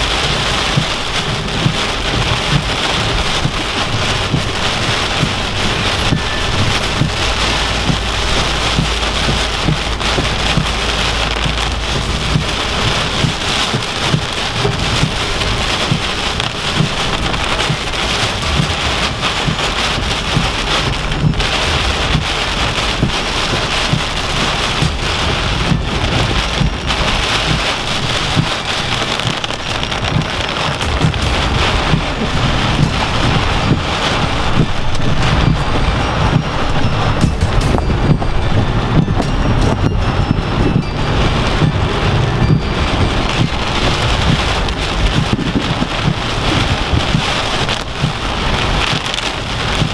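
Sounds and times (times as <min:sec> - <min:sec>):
gusts thudding: 0:00.0 - 0:49.9
heavy rain pelting a car: 0:00.0 - 0:49.9.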